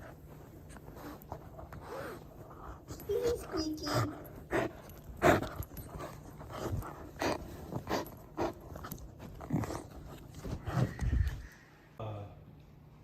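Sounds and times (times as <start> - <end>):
dog chewing a toy: 0.0 - 11.3.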